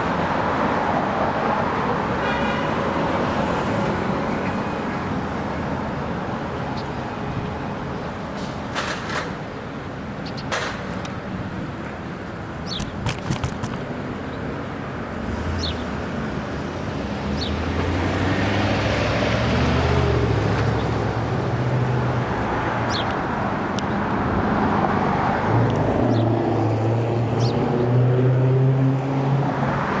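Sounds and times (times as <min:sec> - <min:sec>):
vehicles passing: 0:00.0 - 0:30.0
engines humming: 0:03.0 - 0:30.0.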